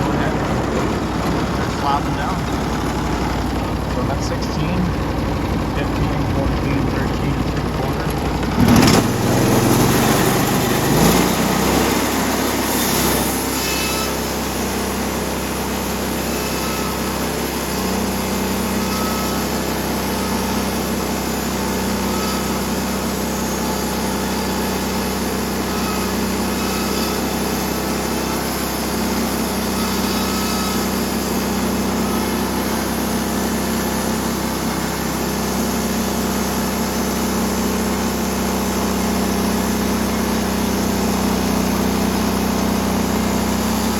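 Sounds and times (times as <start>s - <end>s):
saw blade cutting log: 0.0s - 43.9s
sawmill engine running: 0.0s - 43.9s.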